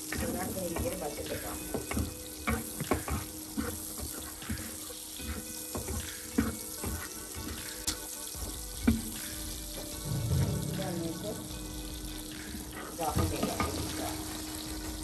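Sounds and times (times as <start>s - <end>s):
sausages sizzling in oil: 0.0s - 15.0s
spatula scraping pan: 0.0s - 15.0s.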